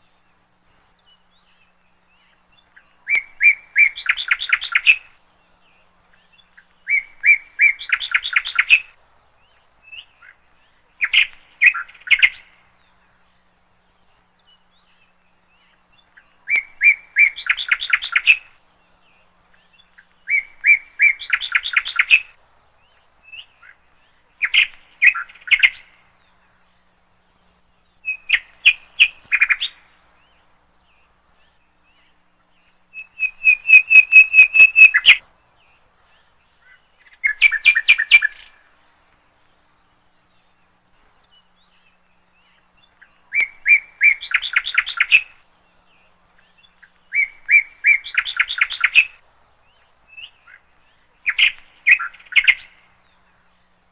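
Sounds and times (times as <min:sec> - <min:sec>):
songbird chirping: 0:00.0 - 0:53.9.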